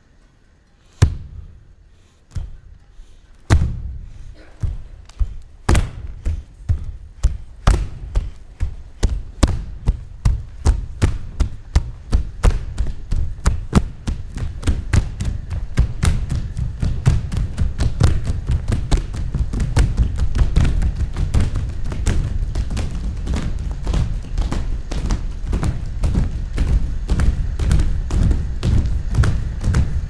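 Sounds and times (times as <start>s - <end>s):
bare feet stamping on stage: 3.5s - 30.0s.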